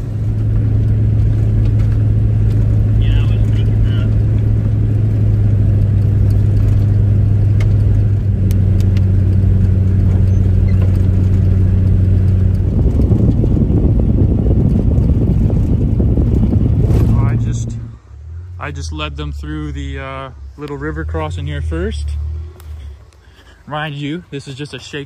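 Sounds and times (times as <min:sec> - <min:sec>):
truck engine rumble from inside cab: 0:00.0 - 0:25.0.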